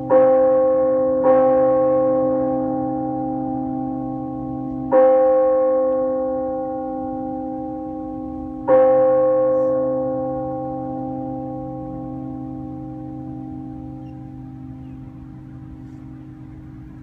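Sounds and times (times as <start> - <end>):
bell tolling slowly: 0.0 - 17.0.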